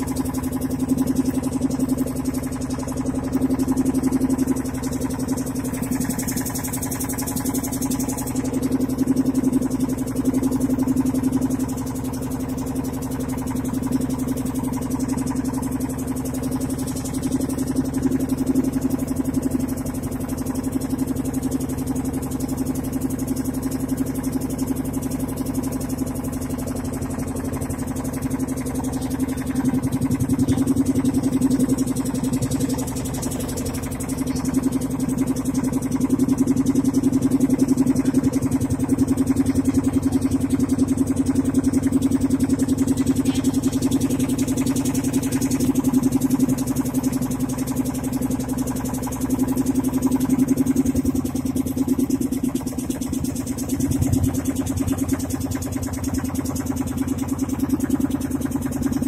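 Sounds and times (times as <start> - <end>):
motorboat engine running: 0.0 - 59.0.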